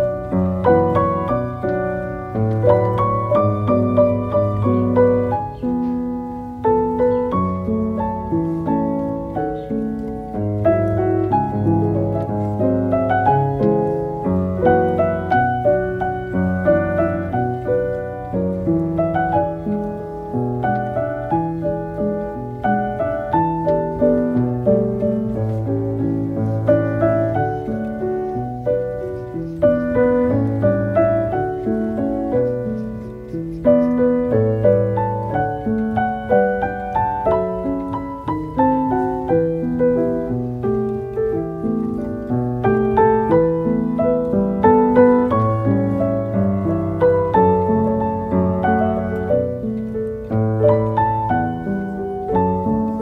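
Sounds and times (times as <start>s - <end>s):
gentle piano melody: 0.0s - 53.0s.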